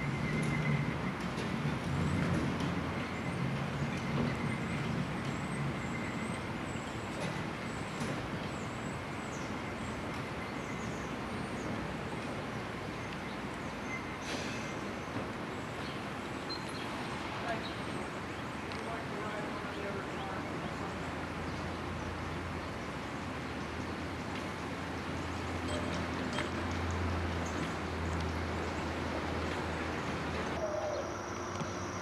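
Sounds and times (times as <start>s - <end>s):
streetcar hum: 0.0s - 32.0s.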